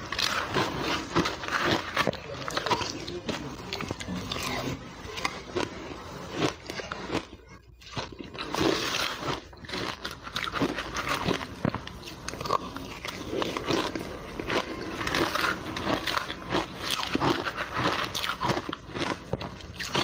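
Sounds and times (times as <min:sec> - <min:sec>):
chewing crushed ice: 0:00.0 - 0:20.0.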